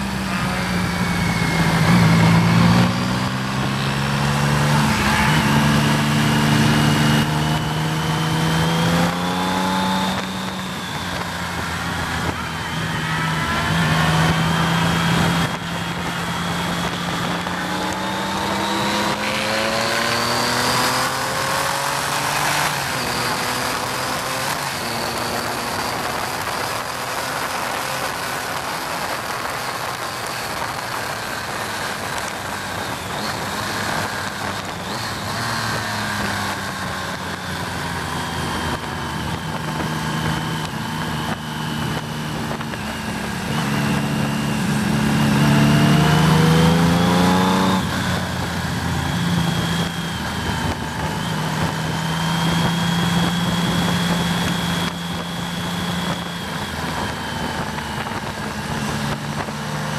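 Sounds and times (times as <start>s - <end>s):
motorcycle engine accelerating: 0.0s - 59.9s
wind rush over microphone: 0.0s - 59.9s.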